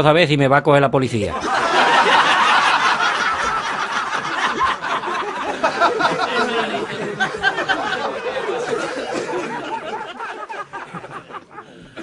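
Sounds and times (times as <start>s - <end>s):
group of people laughing: 1.3s - 12.0s.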